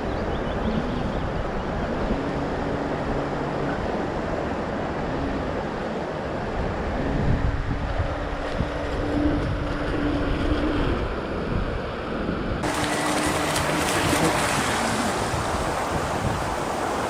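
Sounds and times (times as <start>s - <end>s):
rough water: 0.0s - 17.0s
wind buffeting microphone: 0.0s - 17.0s
waves rushing: 0.8s - 17.0s.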